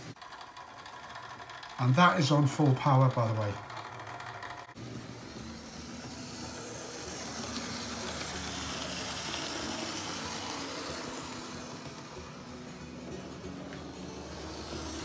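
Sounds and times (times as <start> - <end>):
model train motor whirring: 0.0 - 15.0
model train wheels rolling on rails: 0.0 - 15.0.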